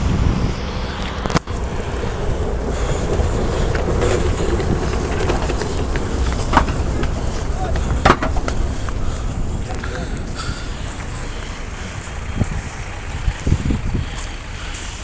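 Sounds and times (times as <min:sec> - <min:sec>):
wind on microphone: 0:00.0 - 0:14.7
diesel bus engine rumble: 0:00.0 - 0:15.0
street noise: 0:00.0 - 0:15.0.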